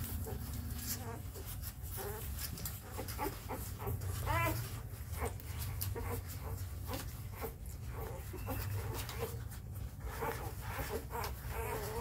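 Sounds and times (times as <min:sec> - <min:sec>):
puppies squeaking and whimpering: 0:00.0 - 0:12.0.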